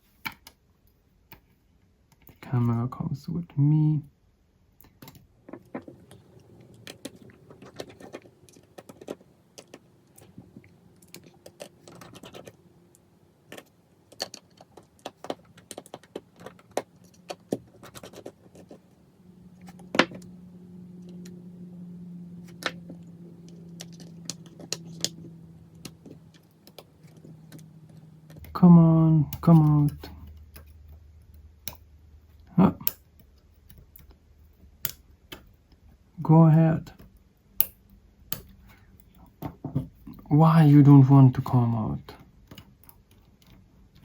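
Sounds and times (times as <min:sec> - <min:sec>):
faint low hum: 0:00.6 - 0:44.0.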